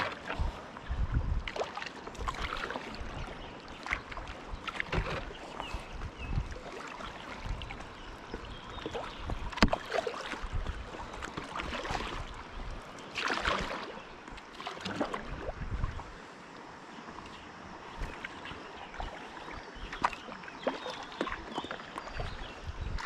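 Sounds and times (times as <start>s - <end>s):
paddle splashes: 0.0s - 23.0s.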